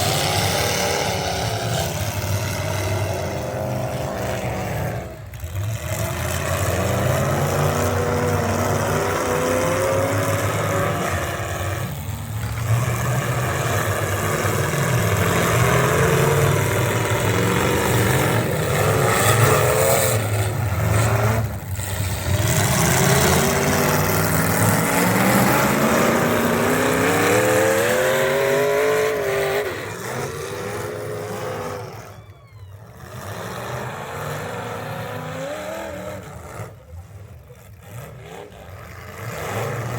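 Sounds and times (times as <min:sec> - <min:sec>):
truck engine revving under load: 0:00.0 - 0:39.9.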